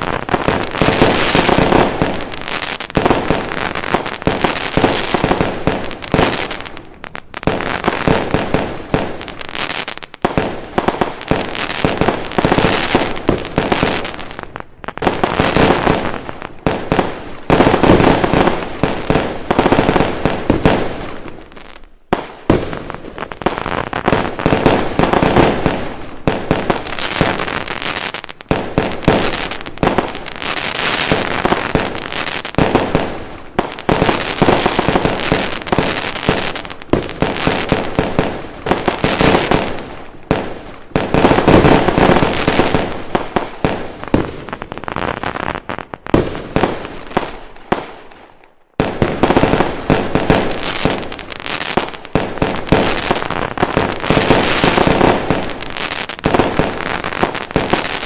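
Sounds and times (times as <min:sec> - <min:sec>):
firecrackers crackling: 0:00.0 - 0:58.0
fireworks bangs: 0:00.0 - 0:58.0.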